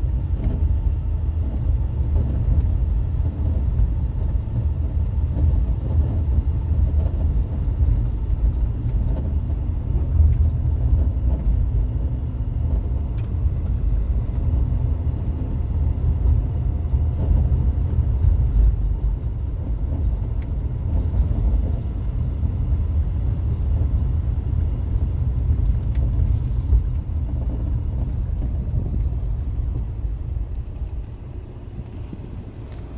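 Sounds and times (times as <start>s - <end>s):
car road rumble: 0.0s - 32.9s.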